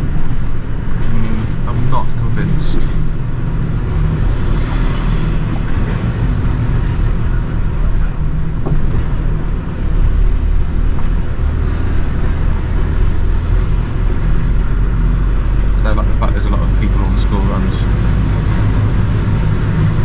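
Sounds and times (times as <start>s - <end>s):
lorry diesel engine rumbling: 0.0s - 20.0s.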